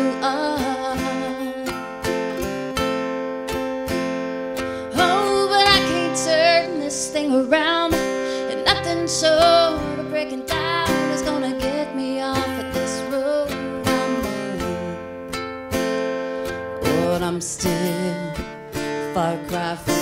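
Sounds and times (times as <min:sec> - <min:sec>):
woman singing: 0:00.0 - 0:02.8, 0:04.6 - 0:15.4, 0:16.5 - 0:20.0
acoustic guitar strumming: 0:00.0 - 0:20.0
ukulele strumming: 0:00.0 - 0:20.0.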